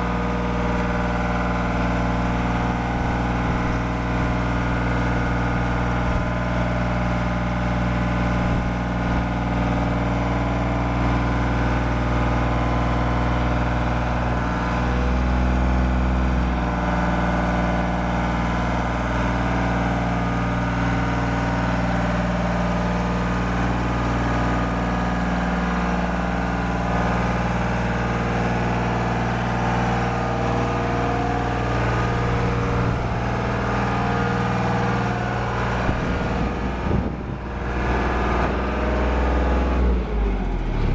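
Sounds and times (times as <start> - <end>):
scissor lift engine running: 0.0 - 40.9.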